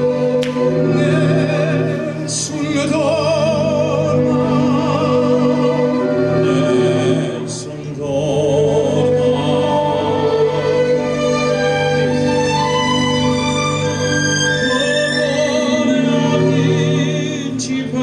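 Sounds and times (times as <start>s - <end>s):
operatic voice singing: 0.0s - 11.1s, 14.5s - 18.0s
classical accompaniment: 0.0s - 18.0s.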